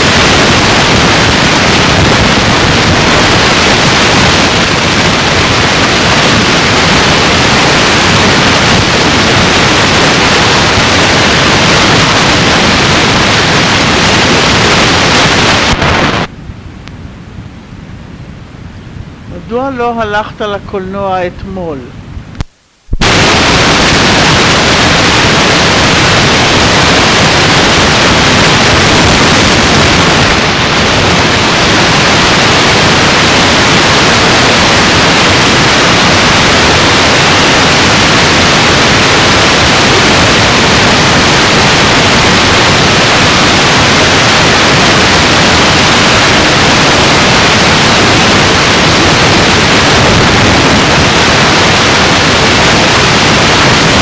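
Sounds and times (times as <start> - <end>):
loud static hiss: 0.0 - 54.0.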